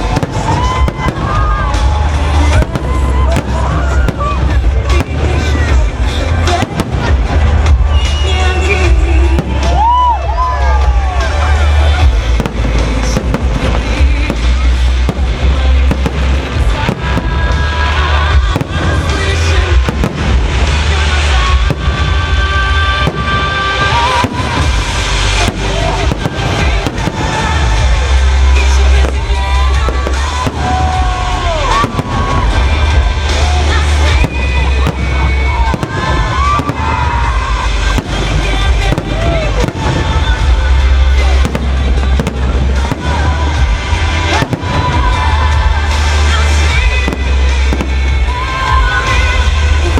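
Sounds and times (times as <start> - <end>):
deep rumble of bursts: 0.0 - 49.9
fireworks bangs: 0.0 - 49.9
loud music with deep bass: 0.0 - 49.9.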